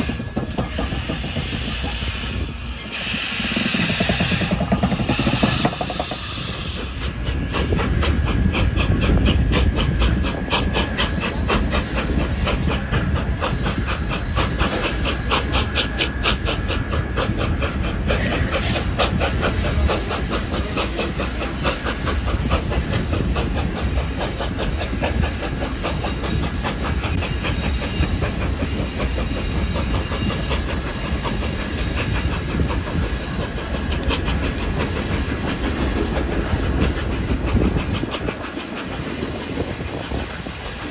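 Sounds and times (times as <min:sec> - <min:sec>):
steam train rolling rumble: 0:00.0 - 0:40.9.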